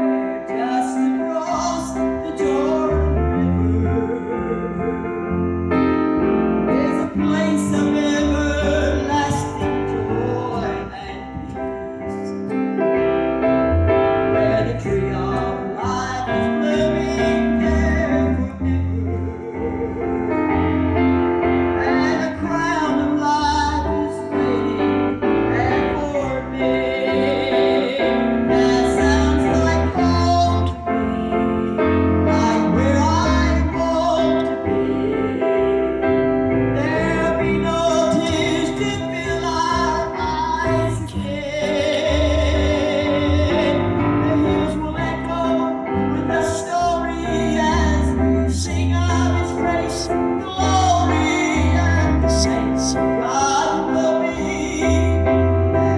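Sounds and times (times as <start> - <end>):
bass line: 0.0 - 55.9
piano accompaniment: 0.0 - 55.9
woman singing gospel: 0.5 - 5.0, 6.7 - 12.4, 14.4 - 20.8, 21.8 - 36.1, 36.8 - 55.0.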